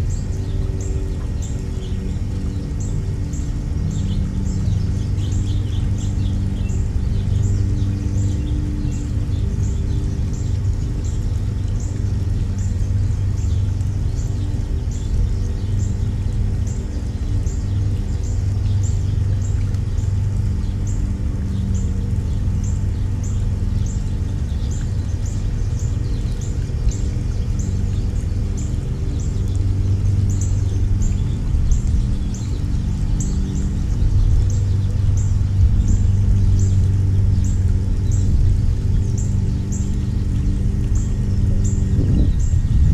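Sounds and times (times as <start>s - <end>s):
songbird chirping: 0.0s - 42.9s
steady low hum: 0.0s - 42.9s.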